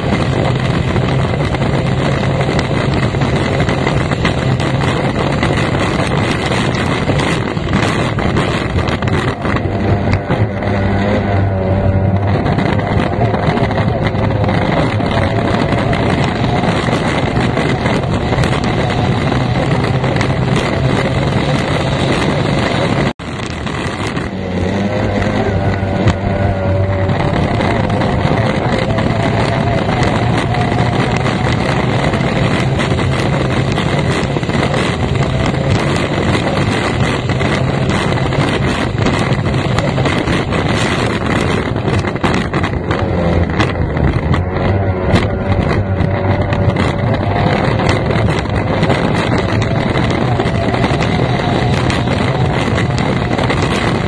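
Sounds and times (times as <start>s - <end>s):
outboard engine running at speed: 0.0s - 54.0s
wind rush: 0.0s - 54.0s.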